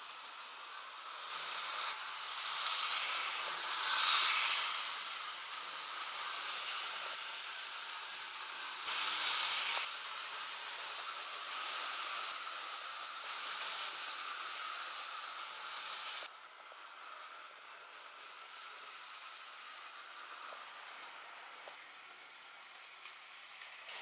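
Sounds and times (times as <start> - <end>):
model train whirring on track: 0.0 - 24.0.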